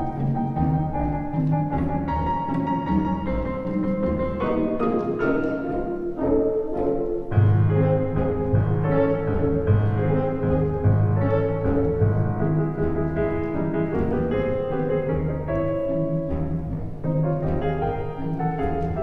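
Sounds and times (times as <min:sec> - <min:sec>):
classical ballet music: 0:00.0 - 0:19.0.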